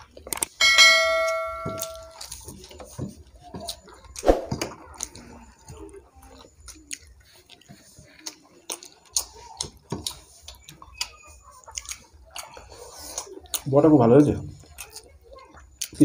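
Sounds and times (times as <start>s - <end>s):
chewing: 0.0s - 0.6s, 1.8s - 16.0s.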